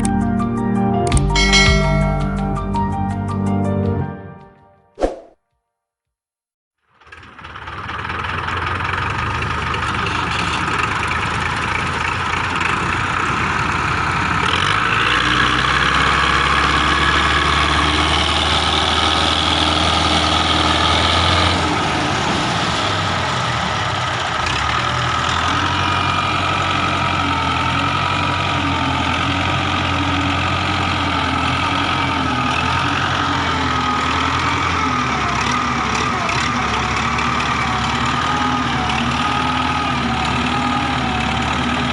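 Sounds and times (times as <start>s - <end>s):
diesel tractor engine running: 7.0s - 41.9s.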